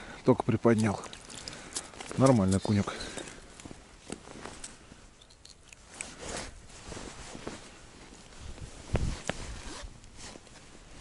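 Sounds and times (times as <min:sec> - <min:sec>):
jacket rustling: 0:01.2 - 0:11.0.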